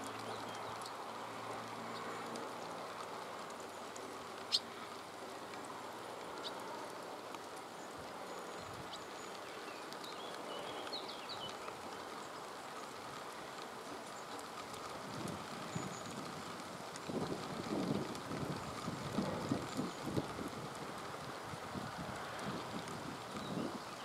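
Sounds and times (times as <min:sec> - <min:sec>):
rain hiss in meadow: 0:00.0 - 0:24.0.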